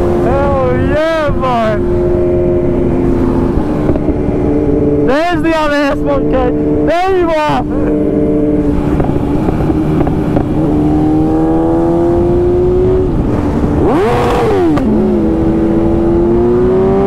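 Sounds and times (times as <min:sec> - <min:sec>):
lower engine tone: 0:00.0 - 0:17.0
motorcycle engine running: 0:00.0 - 0:17.0
road rumble: 0:00.0 - 0:17.0
wind: 0:00.0 - 0:17.0.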